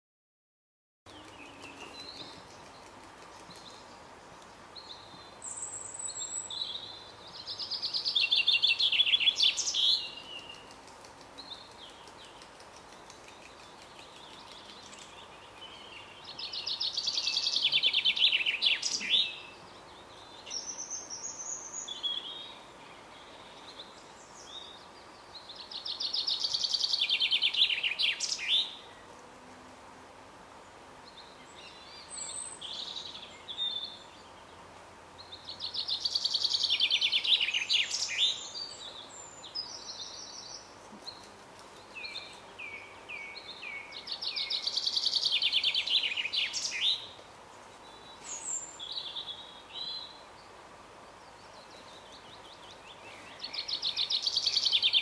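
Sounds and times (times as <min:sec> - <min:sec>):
songbird trilling song: 0:01.1 - 0:10.8, 0:11.4 - 0:29.0, 0:35.2 - 0:41.2, 0:41.8 - 0:47.2, 0:47.8 - 0:55.0.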